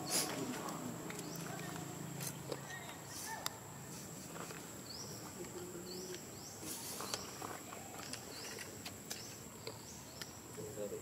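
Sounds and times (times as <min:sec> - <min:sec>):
insects whining: 0:00.0 - 0:11.0.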